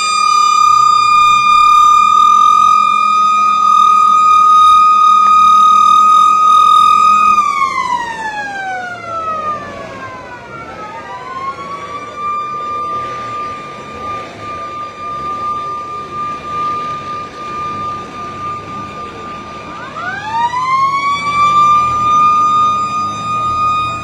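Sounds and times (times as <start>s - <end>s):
emergency vehicle siren: 0.0s - 24.0s.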